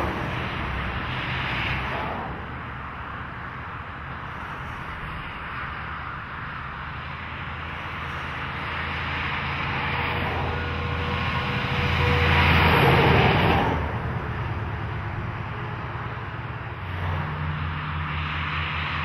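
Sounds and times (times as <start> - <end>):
truck passing close by: 0.0 - 19.0.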